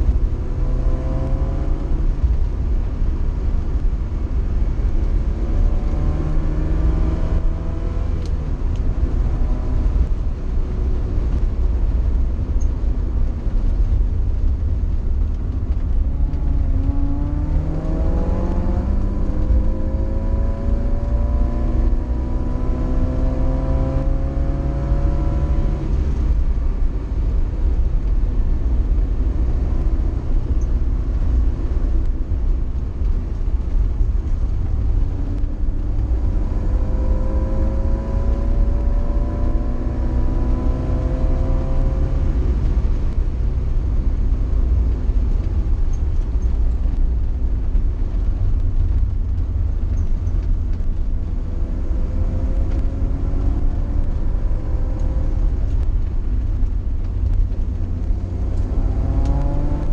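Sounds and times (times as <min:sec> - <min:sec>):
car engine accelerating: 0:00.0 - 0:59.9
road rumble inside car: 0:00.0 - 0:59.9.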